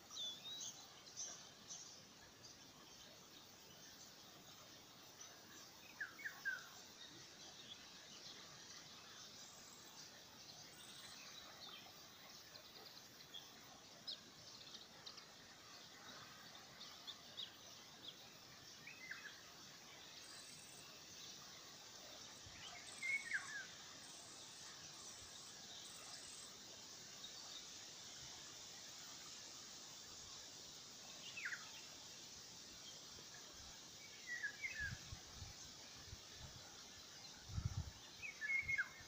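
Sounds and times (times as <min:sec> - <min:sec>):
soft hiss: 0:00.0 - 0:39.0.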